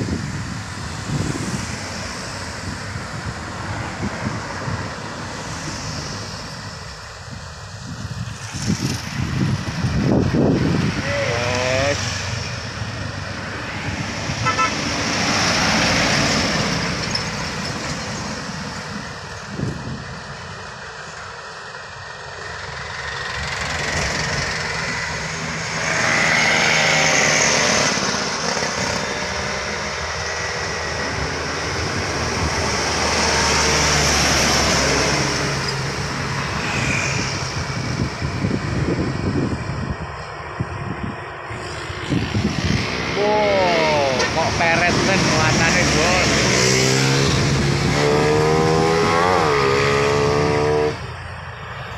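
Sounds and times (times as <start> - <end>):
truck engines at full throttle: 0.0 - 51.9.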